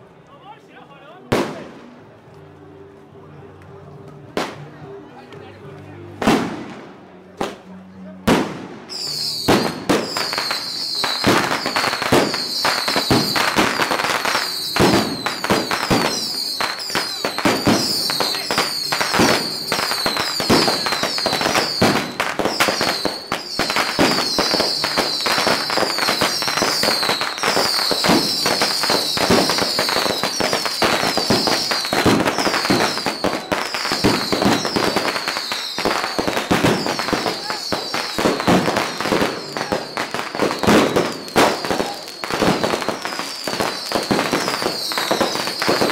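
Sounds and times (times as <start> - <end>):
fireworks cracking and banging: 6.2 - 45.9
high firework whistles: 8.9 - 45.9.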